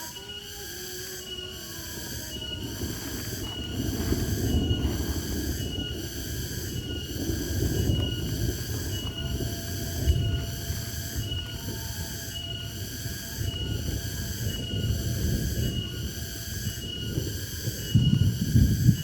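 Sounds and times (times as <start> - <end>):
insects buzzing in pulses: 0.0 - 19.0
low uneven rumble: 1.2 - 17.3.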